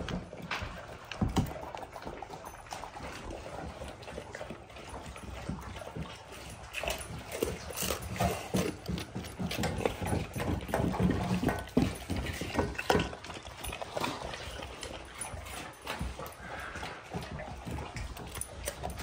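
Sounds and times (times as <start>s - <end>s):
dogs chewing and lapping: 0.0s - 19.0s.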